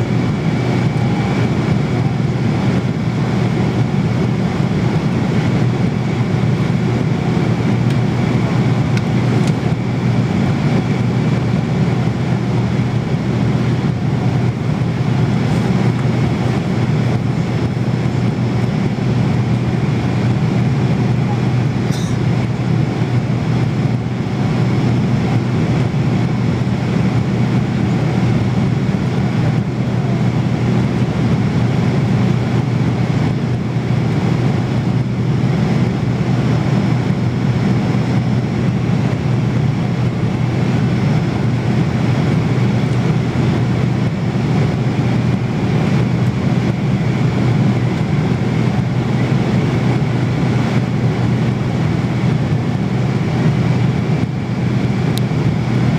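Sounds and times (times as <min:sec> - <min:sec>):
airliner cabin drone: 0:00.0 - 0:55.9.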